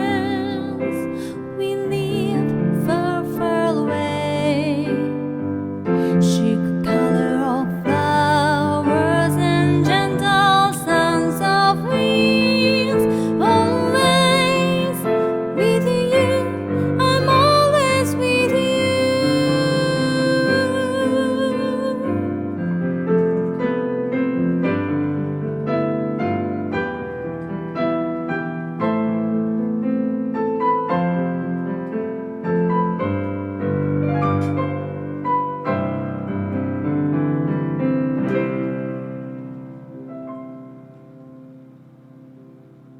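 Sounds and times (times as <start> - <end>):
solo piano playing: 0.0 - 42.9.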